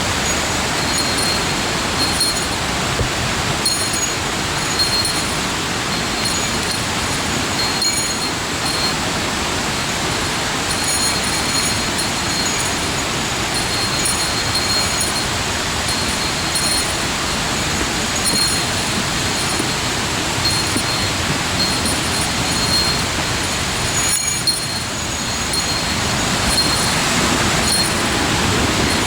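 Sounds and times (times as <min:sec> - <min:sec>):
rushing water: 0:00.0 - 0:29.0.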